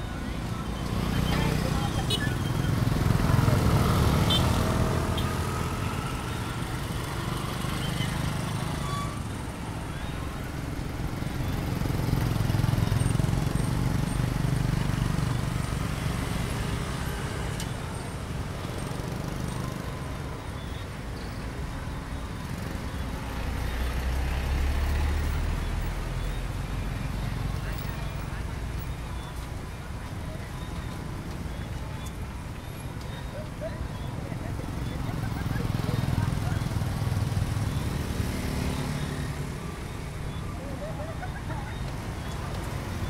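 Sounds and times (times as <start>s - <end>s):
scooter and motorbike traffic: 0.0s - 43.0s.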